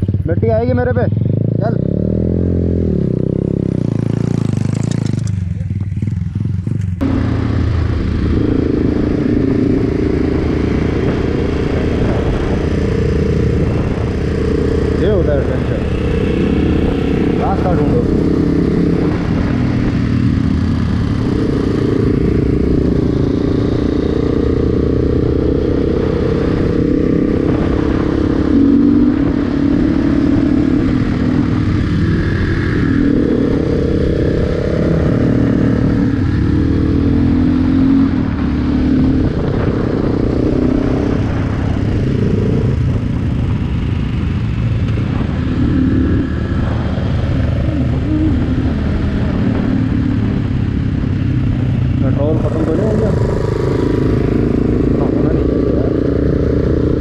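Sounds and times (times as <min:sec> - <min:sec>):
motorcycle engine running: 0:00.0 - 0:57.0
wind noise on microphone: 0:02.2 - 0:57.0.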